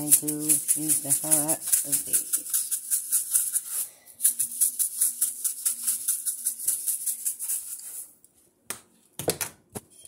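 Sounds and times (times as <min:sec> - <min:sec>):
seasoning shaker rattling: 0:00.0 - 0:08.1.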